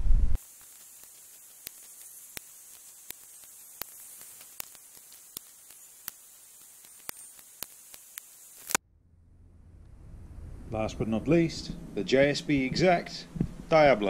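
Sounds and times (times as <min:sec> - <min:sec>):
faint recording hiss: 0:00.0 - 0:08.8, 0:09.7 - 0:14.0.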